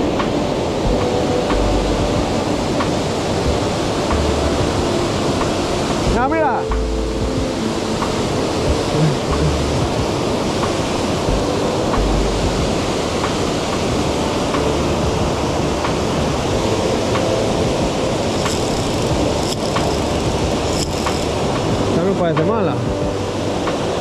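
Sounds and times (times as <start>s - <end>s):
water rushing over a weir: 0.0s - 24.0s.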